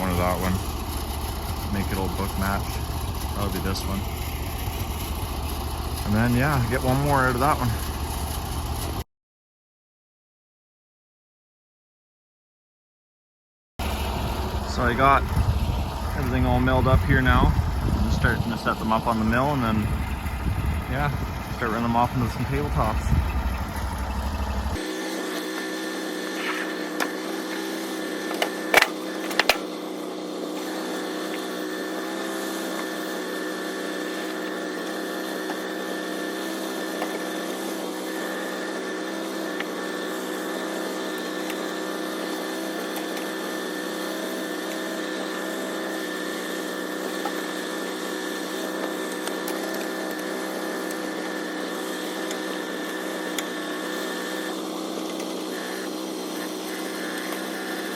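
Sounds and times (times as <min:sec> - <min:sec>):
sawmill engine running: 0:00.0 - 0:09.0, 0:13.8 - 0:57.9.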